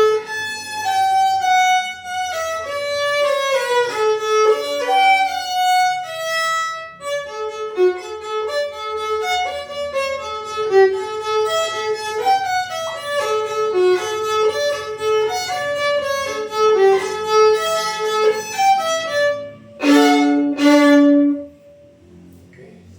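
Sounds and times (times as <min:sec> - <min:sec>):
violin playing quick melody: 0:00.0 - 0:21.8
loud violin chord: 0:00.0 - 0:22.0.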